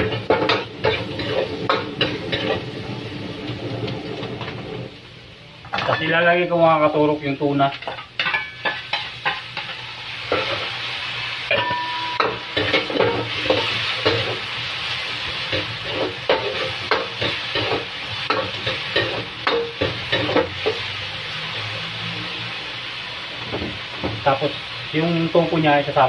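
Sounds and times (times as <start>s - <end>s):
fish sizzling in a wok: 0.0s - 5.4s, 6.0s - 26.0s.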